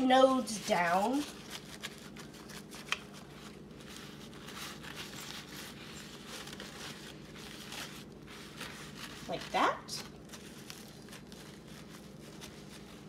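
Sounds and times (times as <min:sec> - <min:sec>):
faint steady hum: 0:00.0 - 0:13.0
paper towel rustling: 0:00.0 - 0:13.0.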